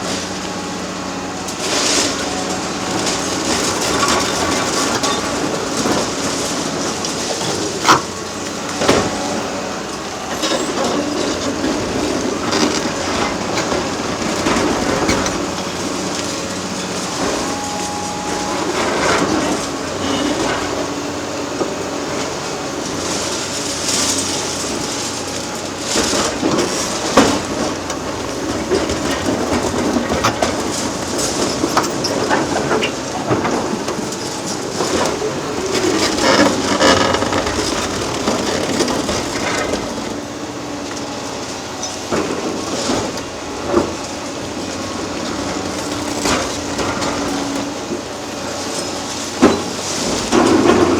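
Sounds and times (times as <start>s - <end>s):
diesel engines under load: 0.0s - 50.9s.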